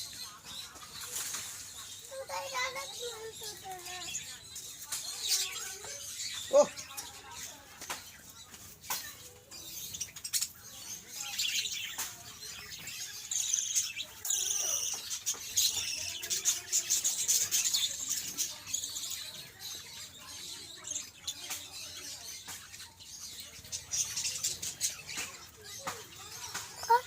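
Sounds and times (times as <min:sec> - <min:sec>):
parrots chirping and calling: 0:00.0 - 0:27.0.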